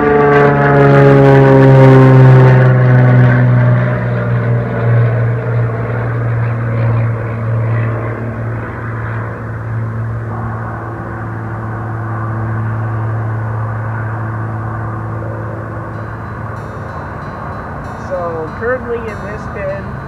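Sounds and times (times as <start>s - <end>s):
passing engine drone: 0.0s - 20.0s.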